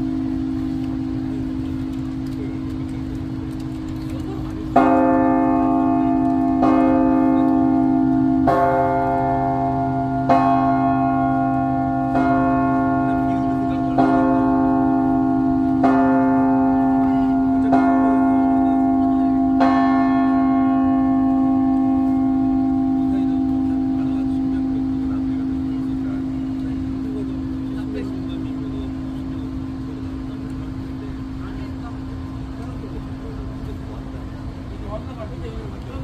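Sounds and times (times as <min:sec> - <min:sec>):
church bell tolling: 0:00.0 - 0:33.8.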